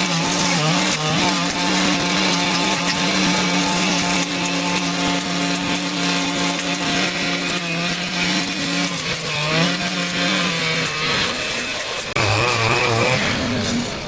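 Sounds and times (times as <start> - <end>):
small petrol engine power tool cutting: 0.0 - 14.0.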